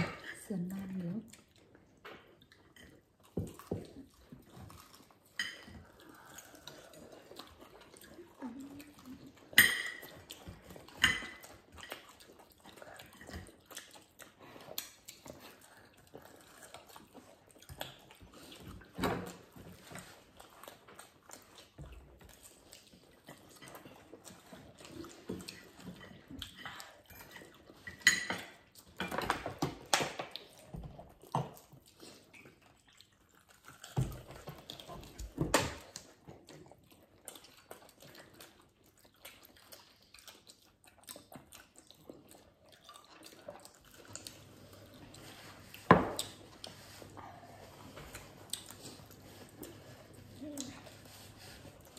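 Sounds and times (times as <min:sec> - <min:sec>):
people chewing: 0:00.0 - 0:51.9.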